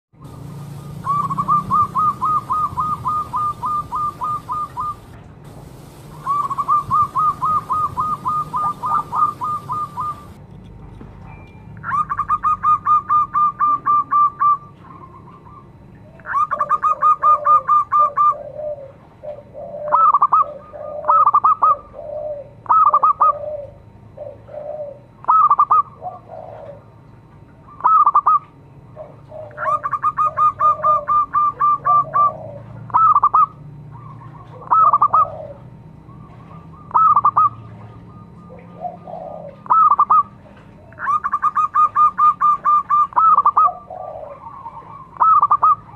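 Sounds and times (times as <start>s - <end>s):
dove cooing: 0.3s - 10.4s, 11.8s - 45.9s.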